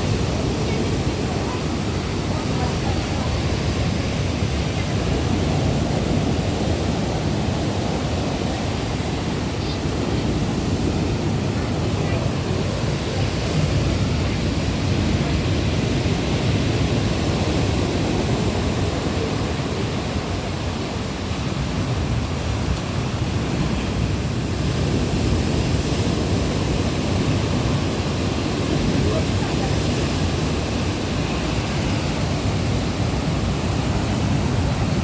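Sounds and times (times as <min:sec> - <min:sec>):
sea surf washing on shore: 0:00.0 - 0:35.0.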